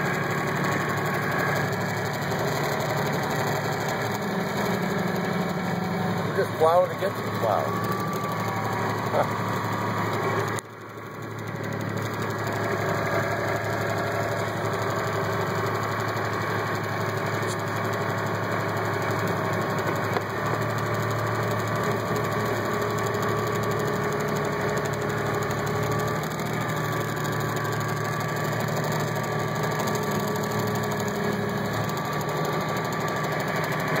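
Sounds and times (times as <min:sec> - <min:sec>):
loader pushing through snow: 0:00.0 - 0:34.0
tractor diesel engine running: 0:00.0 - 0:34.0.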